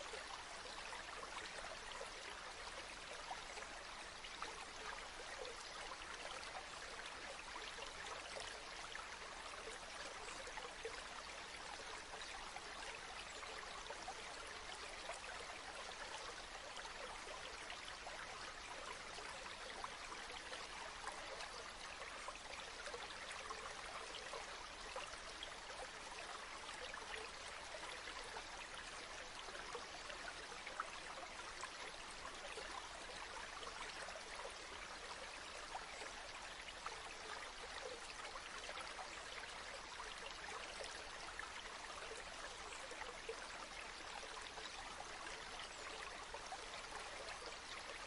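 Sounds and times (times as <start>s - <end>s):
stream babbling over stones: 0.0s - 48.0s.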